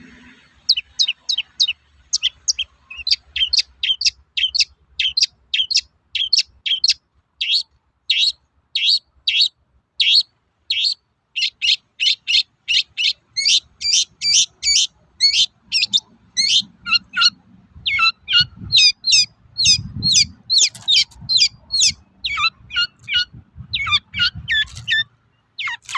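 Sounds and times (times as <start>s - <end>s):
shrike calling: 0.5s - 25.9s.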